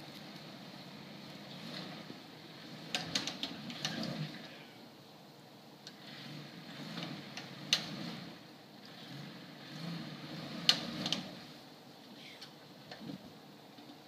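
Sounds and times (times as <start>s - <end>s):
engine rumbling: 0.0s - 14.0s.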